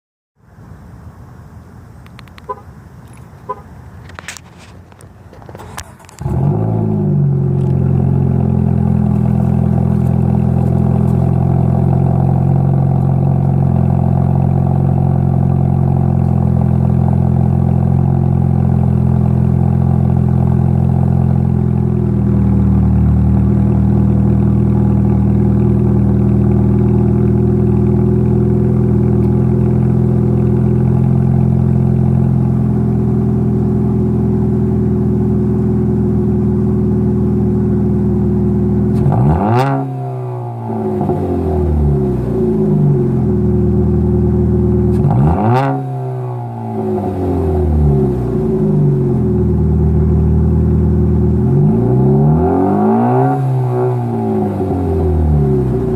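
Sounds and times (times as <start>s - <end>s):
car engine starting and idling: 0.4s - 55.9s.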